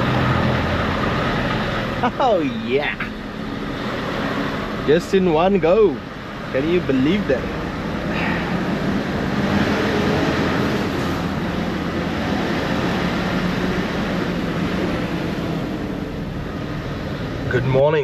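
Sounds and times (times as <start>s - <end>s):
rushing noise: 0.0s - 17.6s
large engine droning: 0.0s - 18.0s.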